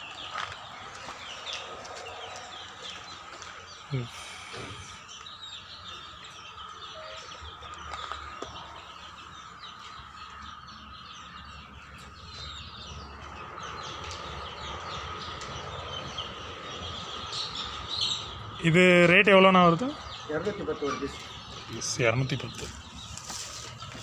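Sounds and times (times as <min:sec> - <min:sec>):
chicks peeping and chirping: 0:00.0 - 0:24.0.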